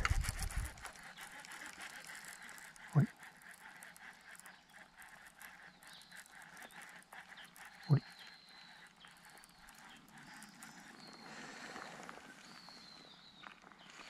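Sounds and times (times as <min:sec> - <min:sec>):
fishing reel ticking: 0:00.0 - 0:12.4.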